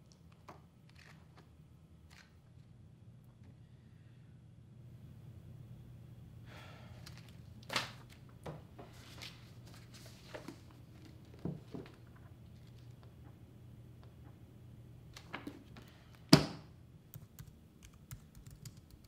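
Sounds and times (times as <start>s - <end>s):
faint room hum: 0.0s - 19.0s.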